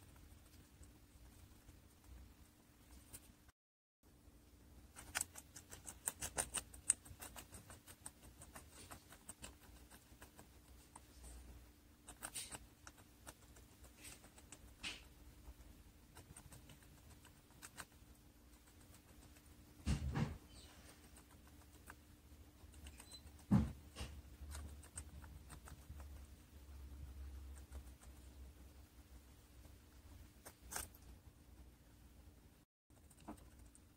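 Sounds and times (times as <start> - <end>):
guinea pig chewing vegetables: 0.0 - 3.5, 4.1 - 33.9.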